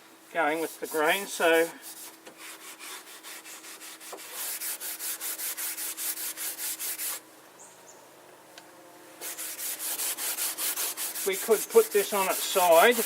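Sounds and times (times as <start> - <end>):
steel wool scrubbing wood: 0.3 - 7.2, 9.2 - 13.0.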